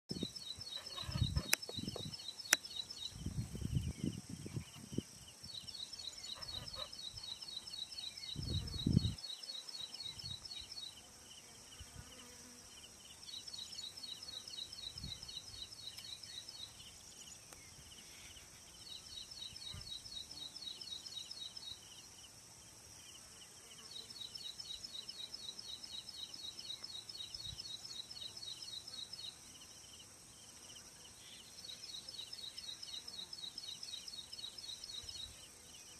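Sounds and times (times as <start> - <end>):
high insect hiss: 0.1 - 35.9.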